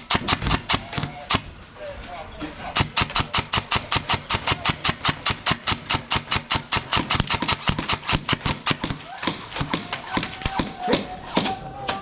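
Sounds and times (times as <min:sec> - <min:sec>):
airsoft gun rapid firing: 0:00.0 - 0:01.6, 0:02.6 - 0:11.6.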